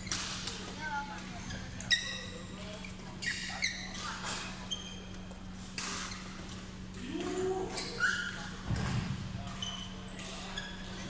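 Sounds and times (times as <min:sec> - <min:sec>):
shoes squeaking on court floor: 0:01.3 - 0:06.9, 0:07.7 - 0:11.0.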